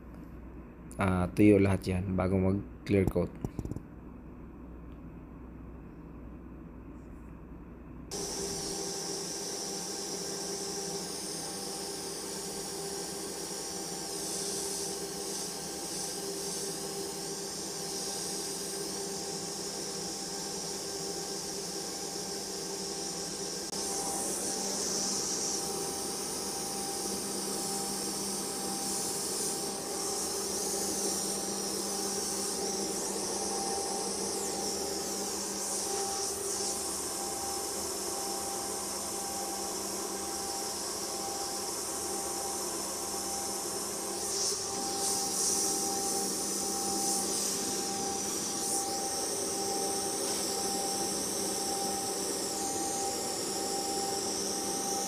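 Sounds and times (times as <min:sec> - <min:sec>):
air blower hissing: 0:08.1 - 0:55.0.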